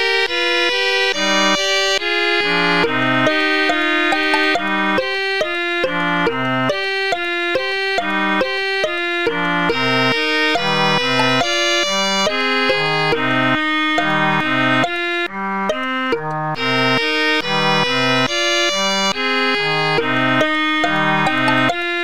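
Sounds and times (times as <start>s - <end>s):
instrumental background music: 0.0s - 22.0s.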